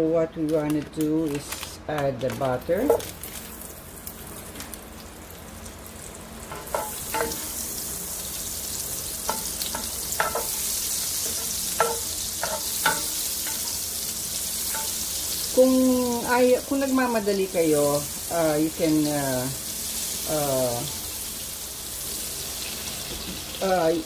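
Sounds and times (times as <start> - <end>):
butter sizzling in pan: 2.8 - 24.0.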